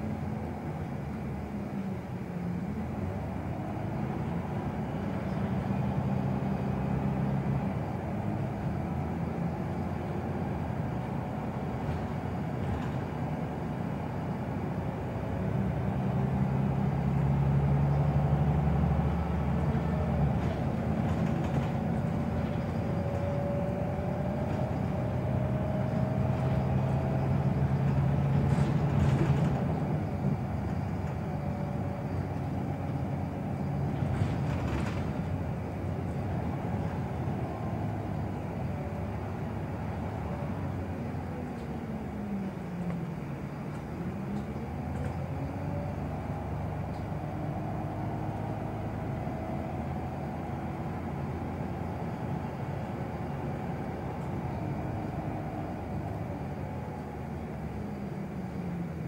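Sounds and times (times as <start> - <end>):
bus engine running: 0.0 - 59.0
road and tyre noise: 0.0 - 59.0.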